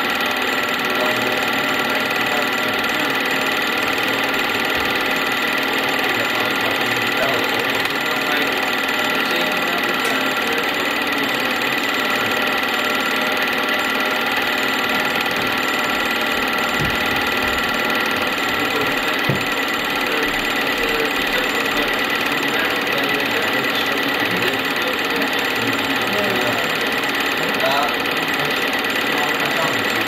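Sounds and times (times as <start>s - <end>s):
film projector whirring: 0.0s - 30.0s.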